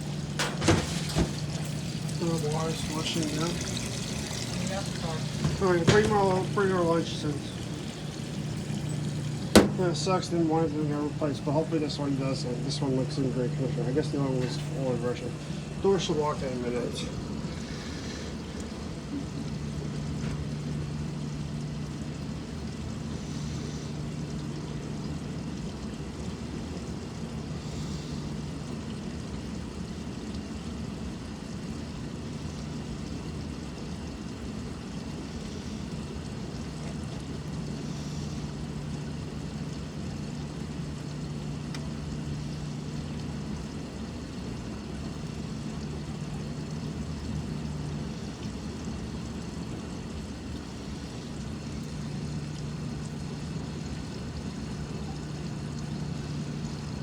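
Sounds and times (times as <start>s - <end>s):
low machine hum: 0.0s - 57.0s
water running into washer: 0.0s - 57.0s.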